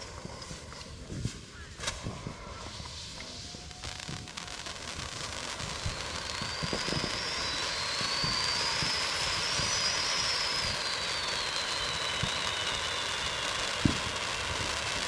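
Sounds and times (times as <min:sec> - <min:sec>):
ground firework hissing and whistling: 0:00.0 - 0:15.0.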